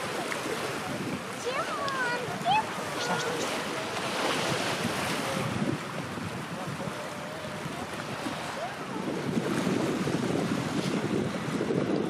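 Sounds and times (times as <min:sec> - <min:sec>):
waves washing: 0:00.0 - 0:12.0
wind buffeting microphone: 0:00.0 - 0:12.0.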